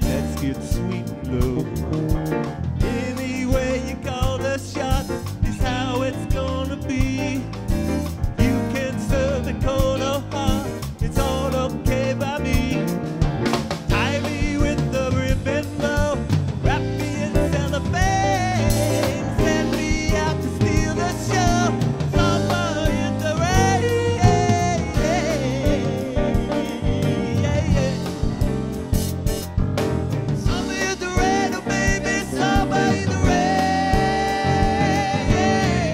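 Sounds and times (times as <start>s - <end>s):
man singing: 0.0s - 29.6s, 30.2s - 35.9s
live band playing: 0.0s - 35.9s.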